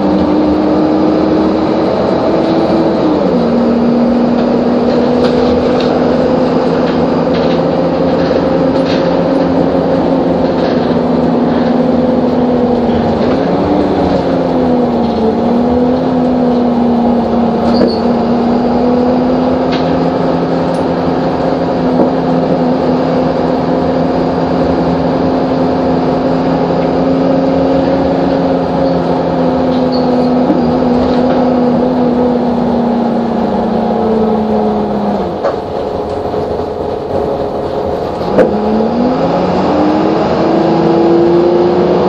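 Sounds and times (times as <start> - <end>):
bus diesel engine running: 0.0 - 42.0.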